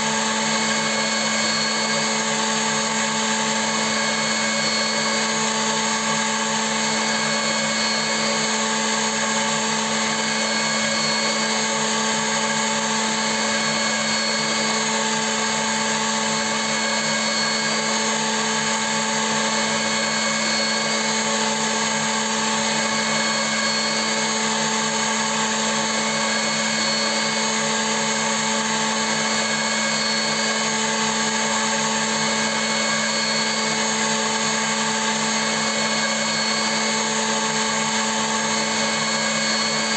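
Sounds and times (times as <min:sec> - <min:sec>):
milling machine motor hum: 0:00.1 - 0:39.9.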